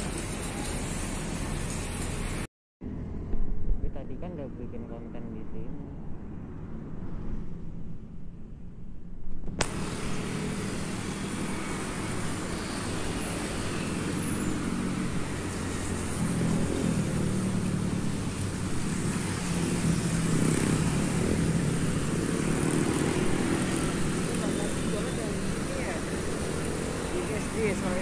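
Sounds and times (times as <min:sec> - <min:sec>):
cars and scooters passing: 0:00.0 - 0:08.9, 0:09.6 - 0:28.0.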